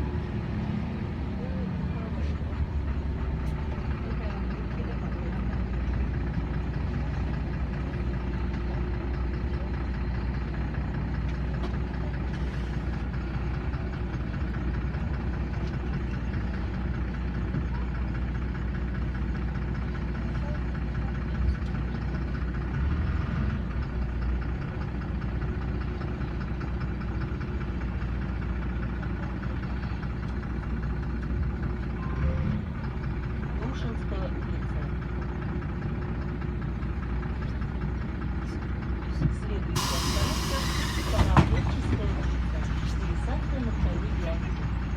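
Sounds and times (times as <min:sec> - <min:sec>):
bus engine drone: 0:00.0 - 0:44.9
low road rumble: 0:00.0 - 0:44.9.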